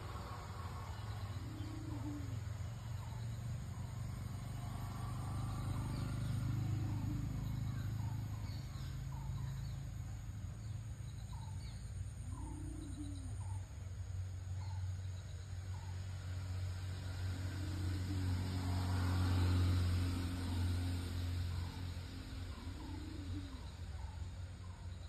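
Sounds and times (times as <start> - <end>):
small birds chirping: 0.0 - 18.5, 19.3 - 25.0.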